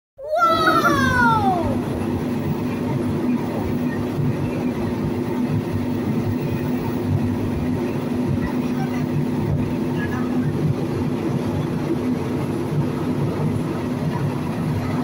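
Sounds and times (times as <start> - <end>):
constant hum: 0.2 - 15.0
low mechanical rumble: 0.2 - 15.0.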